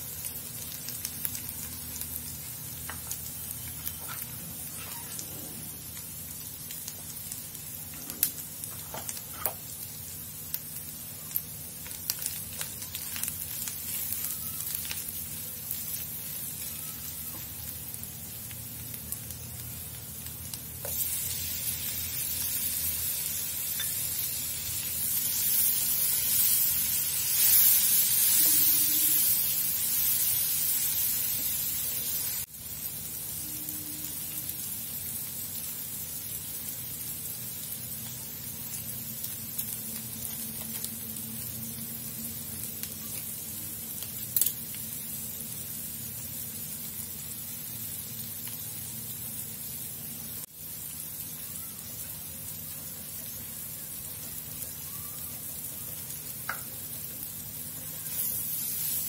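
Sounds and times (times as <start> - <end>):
vegetables sizzling in oil: 0.0 - 59.0.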